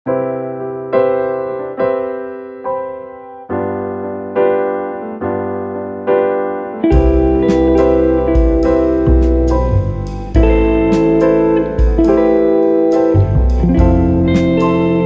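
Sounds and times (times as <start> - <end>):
soft piano chords: 0.1 - 15.0.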